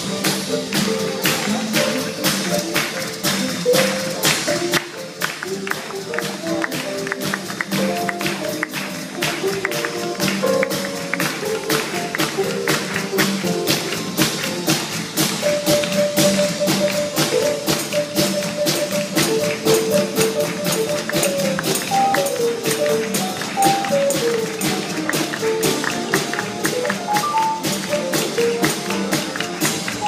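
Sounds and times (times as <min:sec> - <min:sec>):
jazz band playing: 0:00.0 - 0:30.0.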